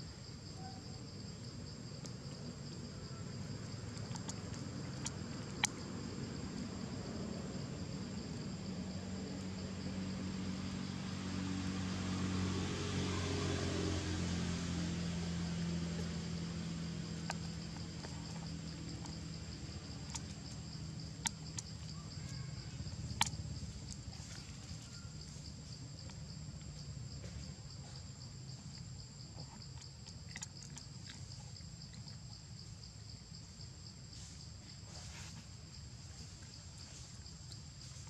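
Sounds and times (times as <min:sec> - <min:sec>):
high insect drone: 0:00.0 - 0:30.2, 0:31.2 - 0:38.0
low engine hum: 0:00.0 - 0:38.0.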